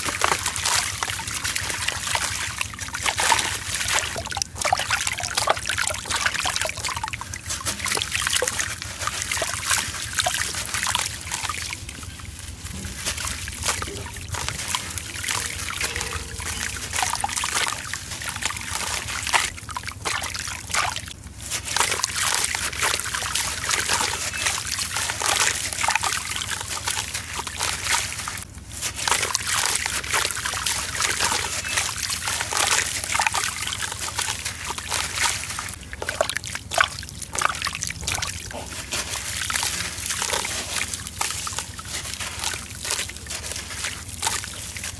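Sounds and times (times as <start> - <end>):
hands crumbling wet block: 0.0 - 44.9
water sloshing and trickling: 0.0 - 44.9.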